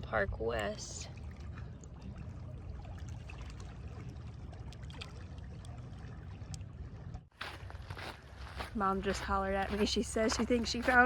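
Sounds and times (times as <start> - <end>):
water lapping on stony shore: 0.0 - 11.0.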